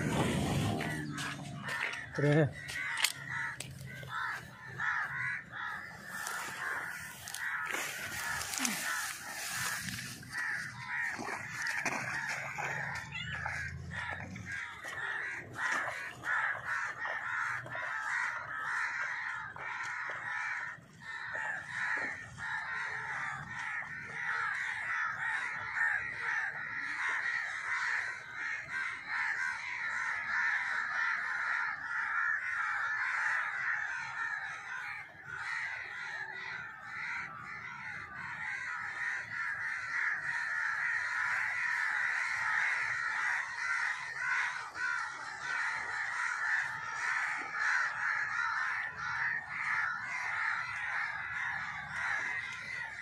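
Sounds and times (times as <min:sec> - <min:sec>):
flock of birds calling: 0:00.0 - 0:53.0.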